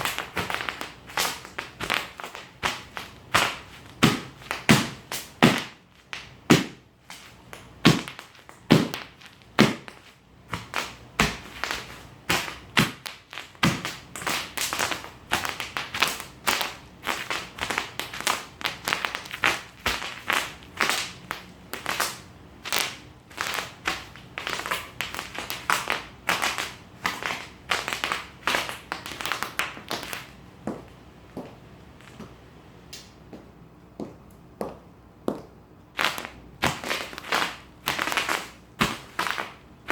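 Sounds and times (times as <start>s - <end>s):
bubble wrap popping: 0.0s - 30.3s, 36.0s - 39.9s.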